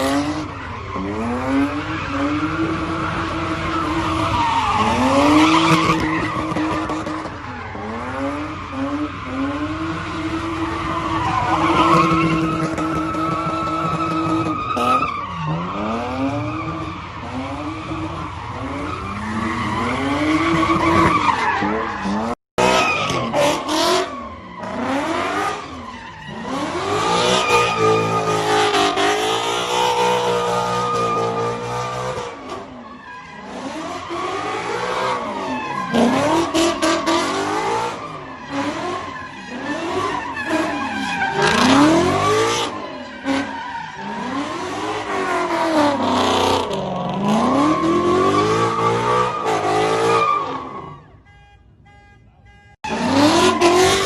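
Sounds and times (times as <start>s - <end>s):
tyres squealing and skidding: 0.0s - 51.3s, 52.8s - 54.0s.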